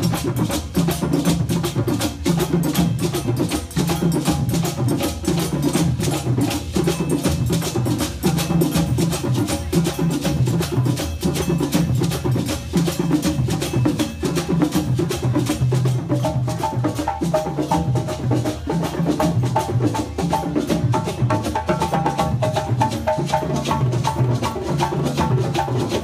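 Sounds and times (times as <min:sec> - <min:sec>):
djembe drums playing: 0:00.0 - 0:26.0.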